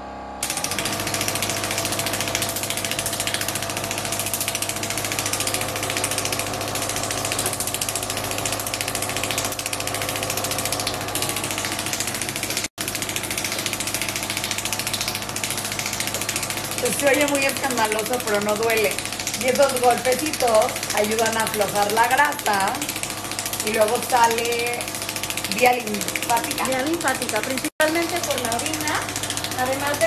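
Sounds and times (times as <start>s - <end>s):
steady hum: 0.0s - 30.0s
rapid clatter of taps: 0.8s - 30.0s.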